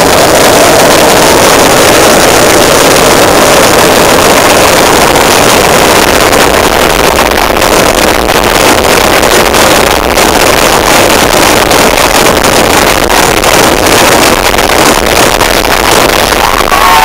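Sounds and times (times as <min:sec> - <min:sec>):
firecracker barrage: 0:00.0 - 0:17.0.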